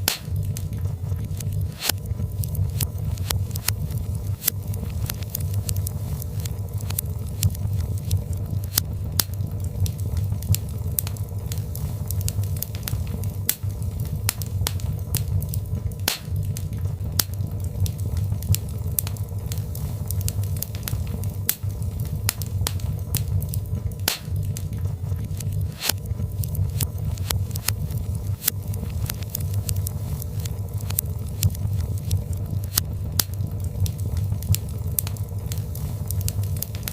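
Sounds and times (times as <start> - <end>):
log fire crackling and popping: 0.0 - 36.9.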